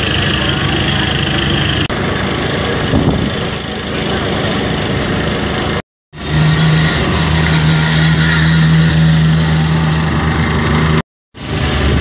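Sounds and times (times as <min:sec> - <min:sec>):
rally car engine running: 0:00.0 - 0:12.0.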